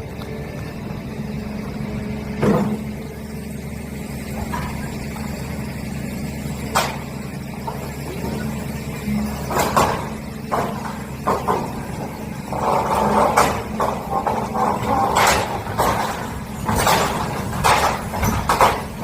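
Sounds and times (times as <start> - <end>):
low engine-like rumble: 0.0 - 19.0.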